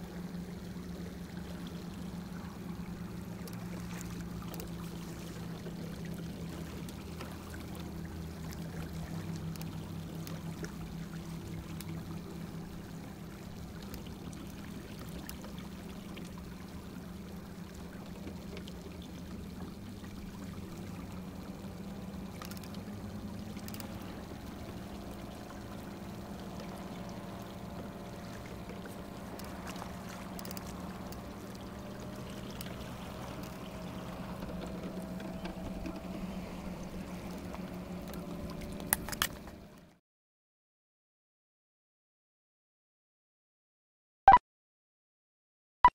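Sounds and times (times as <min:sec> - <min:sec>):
water trickling along hull: 0:00.0 - 0:40.0.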